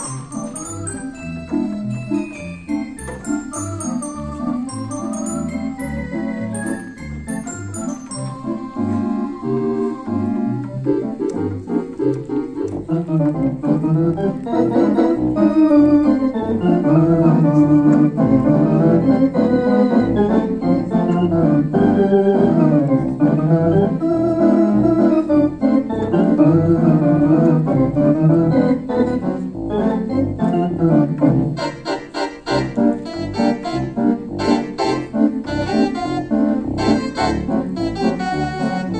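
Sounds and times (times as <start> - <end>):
low organ pedal bass notes: 0.0 - 38.9
theatre organ chords and melody: 0.0 - 38.9.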